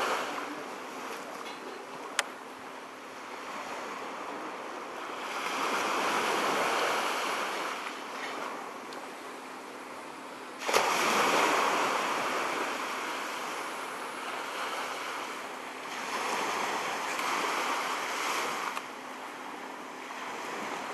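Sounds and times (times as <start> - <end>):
waves washing onto sandy beach: 0.0 - 20.9.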